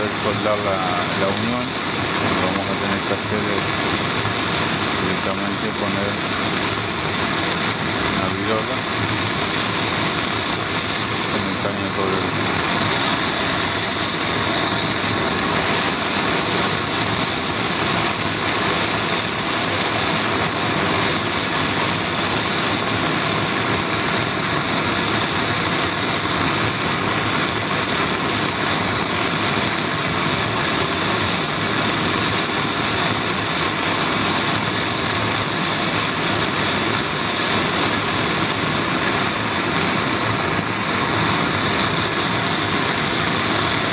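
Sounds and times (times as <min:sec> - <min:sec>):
gas torch flame hissing: 0:00.0 - 0:43.9.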